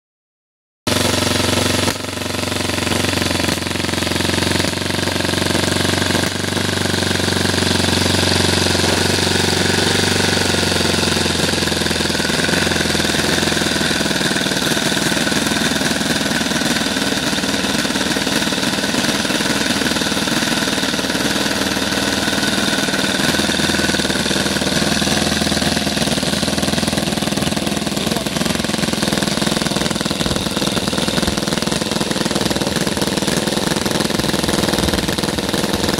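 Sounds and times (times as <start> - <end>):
model engine running: 0.9 - 35.9.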